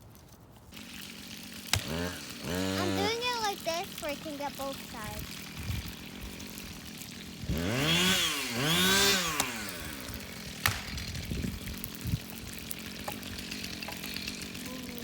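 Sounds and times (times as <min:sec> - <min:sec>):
small engine revving: 0:00.8 - 0:15.0.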